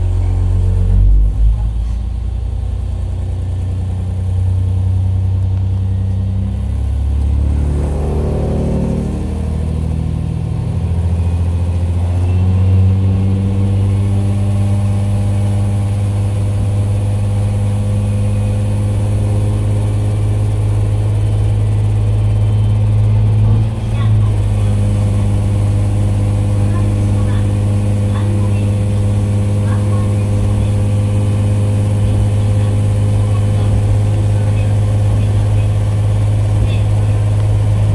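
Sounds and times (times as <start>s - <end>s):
diesel engine drone: 0.0s - 37.9s.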